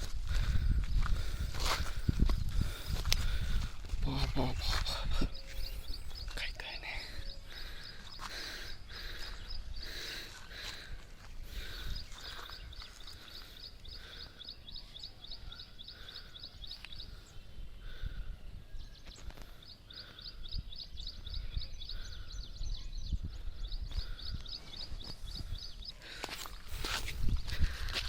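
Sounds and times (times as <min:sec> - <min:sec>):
birds chirping fast: 0:00.0 - 0:28.0.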